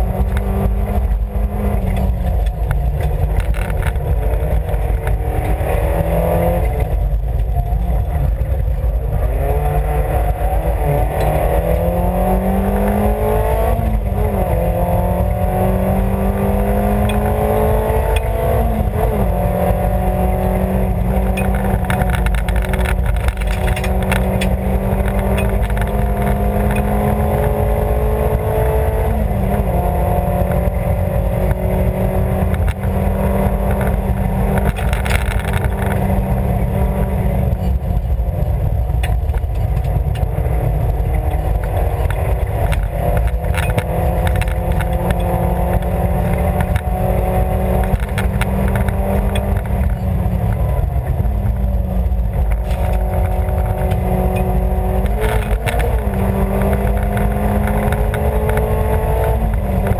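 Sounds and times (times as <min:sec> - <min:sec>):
rally car engine revving: 0:00.0 - 0:59.9
road and tyre noise: 0:00.0 - 0:59.9.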